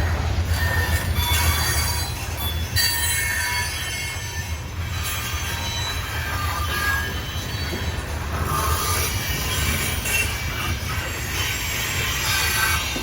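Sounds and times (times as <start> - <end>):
freight train rumbling: 0.0 - 13.0
train wheels squealing: 0.1 - 13.0.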